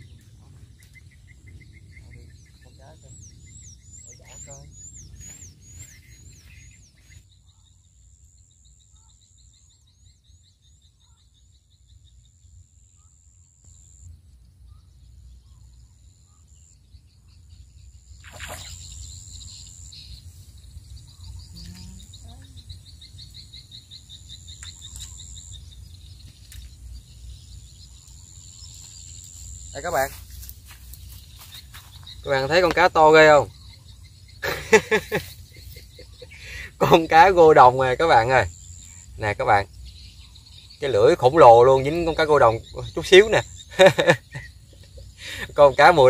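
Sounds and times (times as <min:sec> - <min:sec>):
rapid insect trills: 0:00.0 - 0:46.0.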